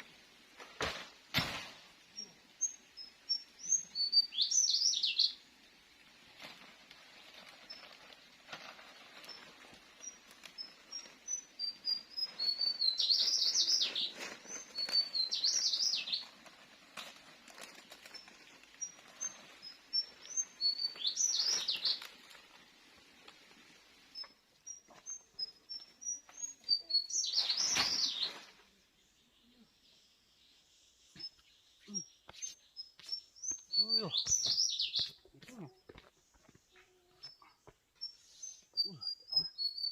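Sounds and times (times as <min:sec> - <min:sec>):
songbird singing: 0:02.0 - 0:05.8, 0:09.1 - 0:22.6, 0:24.0 - 0:39.9.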